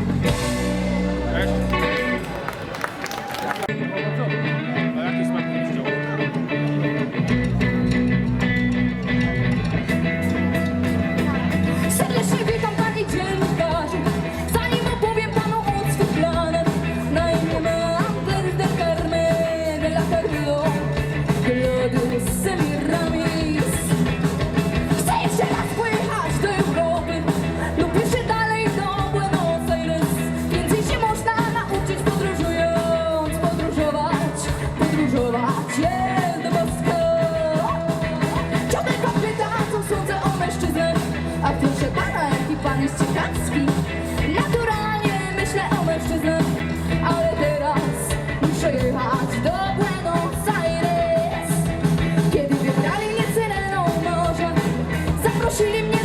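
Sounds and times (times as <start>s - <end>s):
live rock band with singer: 0.0s - 56.0s.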